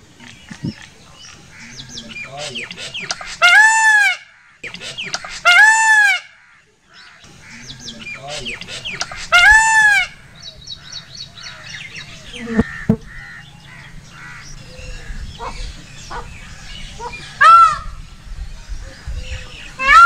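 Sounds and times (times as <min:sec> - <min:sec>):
peacock calls: 0:00.0 - 0:20.0.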